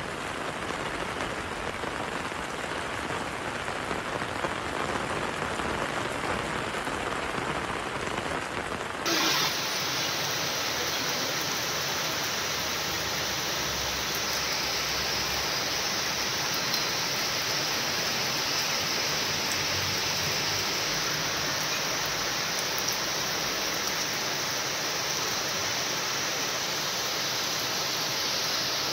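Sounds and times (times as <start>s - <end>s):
heavy rain on road and cars: 0.0s - 28.9s.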